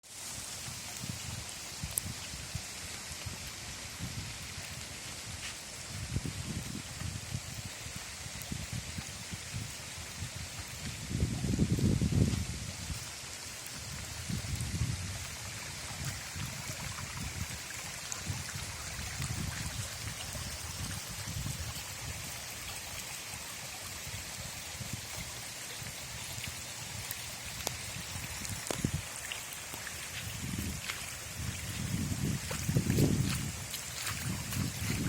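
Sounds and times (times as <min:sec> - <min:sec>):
hiss of flood water: 0:00.0 - 0:35.0.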